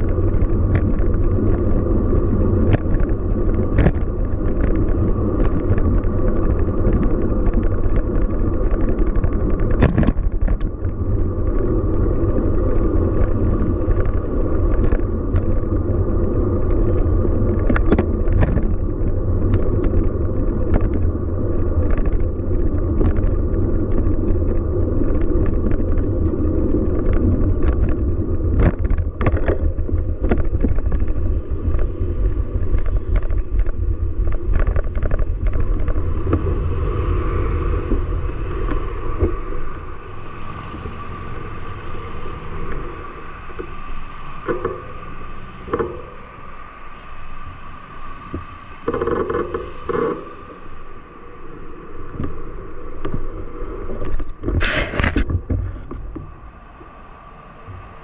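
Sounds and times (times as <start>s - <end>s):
sharp clicks and rattles: 0.0s - 46.3s, 48.3s - 50.4s
bike riding rumble: 0.0s - 58.0s.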